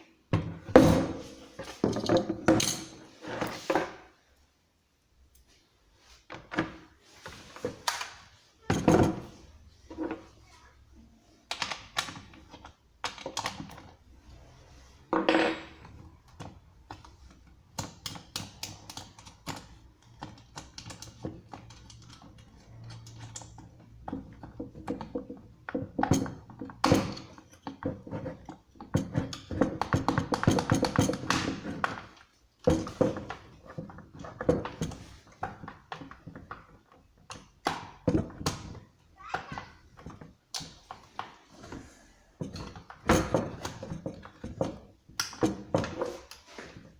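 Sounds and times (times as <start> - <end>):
hard objects tapping and knocking: 0.3 - 4.1, 6.3 - 10.3, 15.0 - 46.9.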